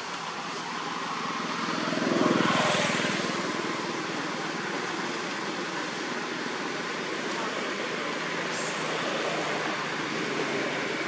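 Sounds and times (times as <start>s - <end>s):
vehicle engine passing: 0.8s - 11.0s.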